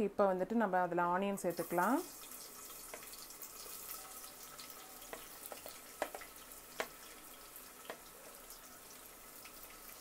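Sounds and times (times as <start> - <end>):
onions sizzling in hot oil: 1.4 - 10.0
oil crackling and popping: 1.5 - 10.0.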